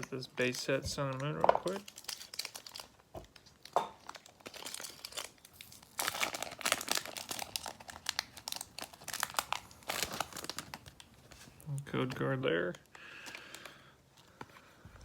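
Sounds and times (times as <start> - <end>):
foil wrapper crinkling and tearing: 0.0 - 13.9.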